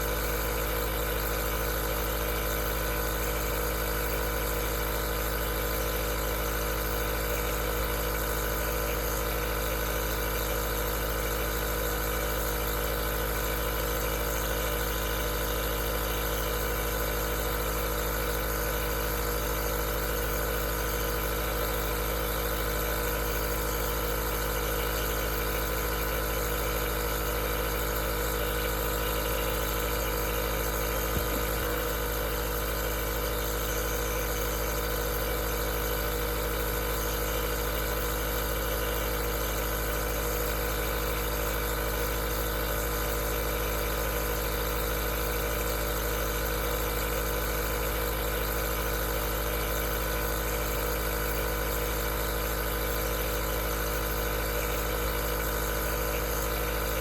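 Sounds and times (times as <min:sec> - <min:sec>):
nebulizer humming: 0:00.0 - 0:57.0.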